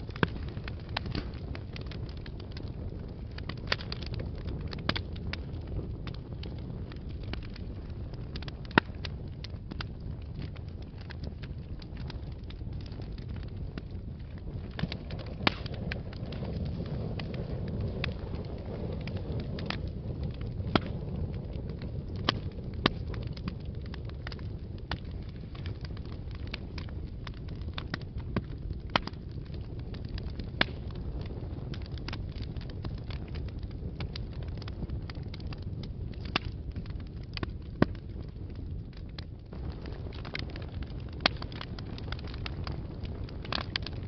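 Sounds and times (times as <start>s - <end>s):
burning wood crackling and popping: 0.0s - 44.0s
flames roaring: 0.0s - 44.0s.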